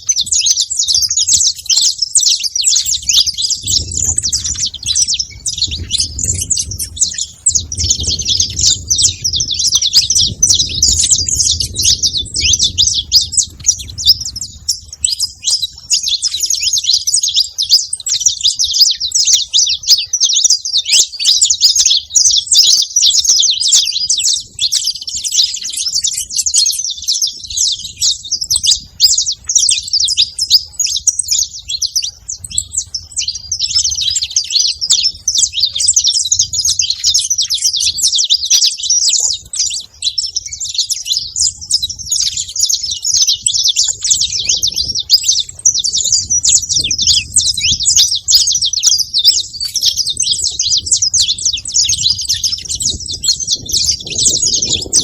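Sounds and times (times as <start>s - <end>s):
finches chirping: 0.0s - 55.0s.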